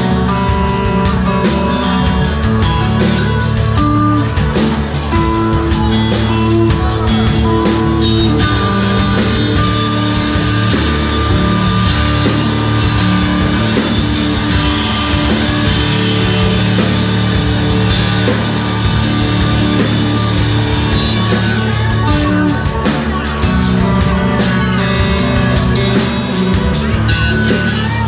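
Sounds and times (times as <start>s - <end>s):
held electric guitar chords: 0.0s - 28.0s
live rock band playing: 0.0s - 28.0s.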